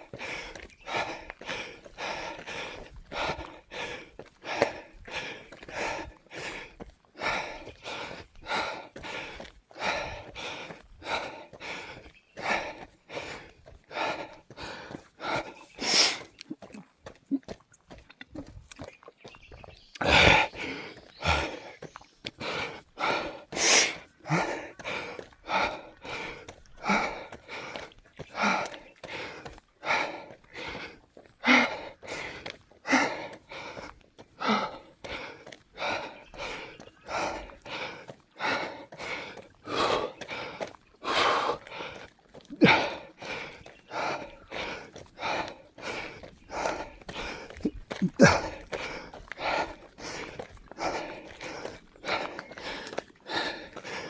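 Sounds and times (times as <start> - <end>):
person panting: 0.0 - 54.0.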